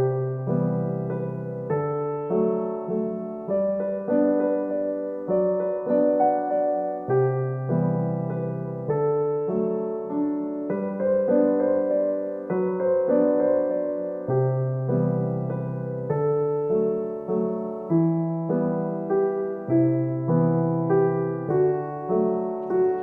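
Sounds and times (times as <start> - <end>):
gentle piano chords: 0.0 - 23.0.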